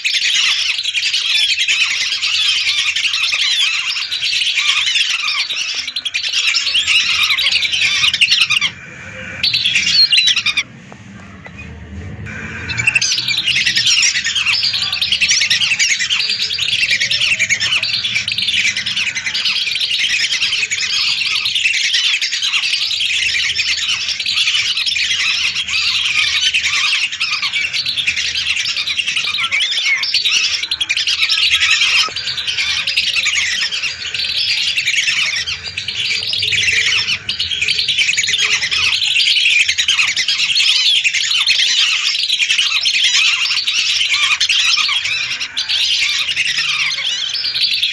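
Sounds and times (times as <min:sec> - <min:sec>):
flock of ducks calling: 0:00.0 - 0:47.9.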